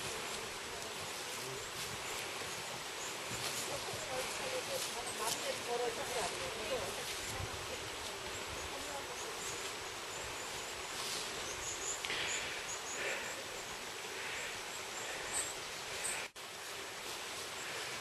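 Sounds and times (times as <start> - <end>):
steady forest hiss: 0.0 - 18.0.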